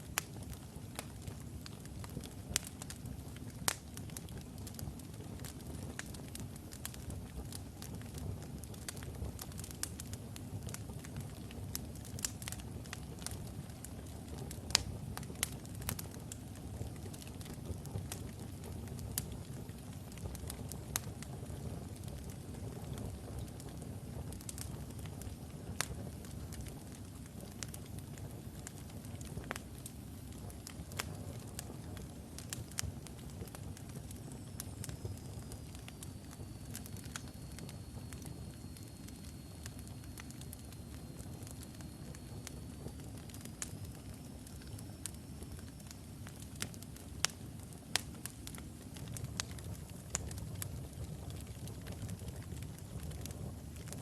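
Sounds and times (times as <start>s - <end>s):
fire crackles and pops: 0.0s - 54.0s
flame rumble: 0.0s - 54.0s.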